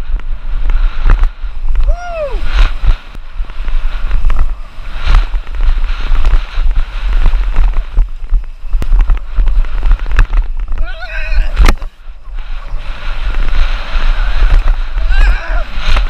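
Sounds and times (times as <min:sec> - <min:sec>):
bike rattling over rough dirt: 0:00.0 - 0:16.0
wind buffeting microphone: 0:00.0 - 0:16.0.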